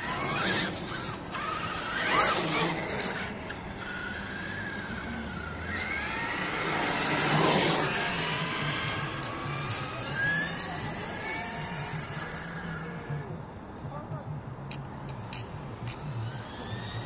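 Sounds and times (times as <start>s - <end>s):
toy car electric motor whining: 0.0s - 13.2s, 15.0s - 17.0s.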